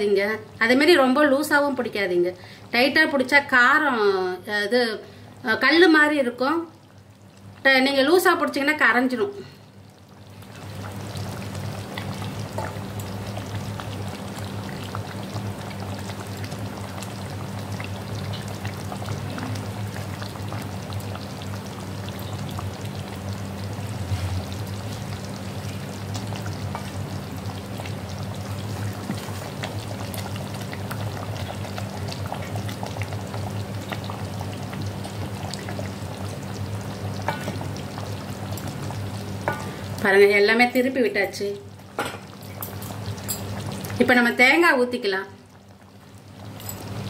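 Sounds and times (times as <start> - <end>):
gravy bubbling in pot: 5.9 - 47.0.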